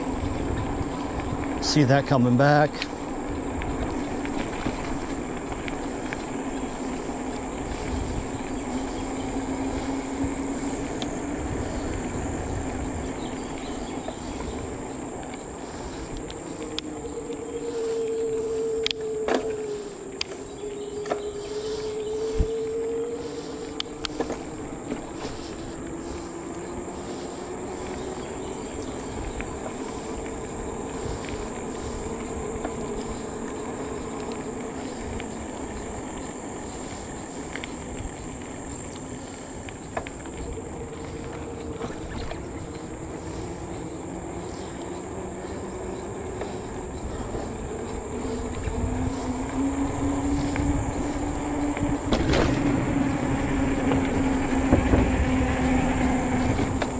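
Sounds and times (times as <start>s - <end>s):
insects chorus: 0.0s - 56.9s
tyres rolling on asphalt: 0.0s - 56.9s
low hum sliding in pitch: 2.9s - 56.9s.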